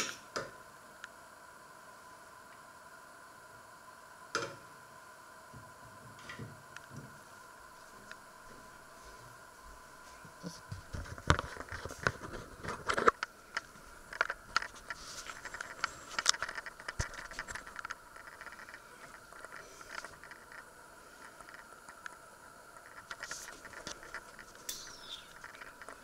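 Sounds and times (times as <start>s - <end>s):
faint high hum: 0.0s - 26.0s.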